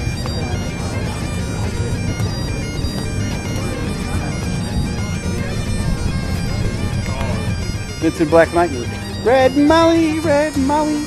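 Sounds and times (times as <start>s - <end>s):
drone of held tones: 0.0s - 11.0s.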